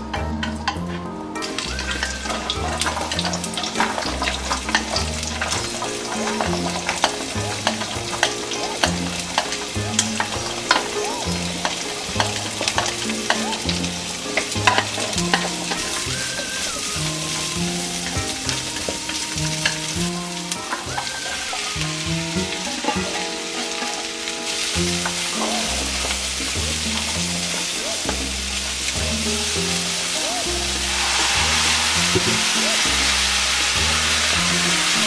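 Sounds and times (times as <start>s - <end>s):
soft background music with bass: 0.0s - 35.0s
vegetables sizzling in frying pan: 1.5s - 35.0s.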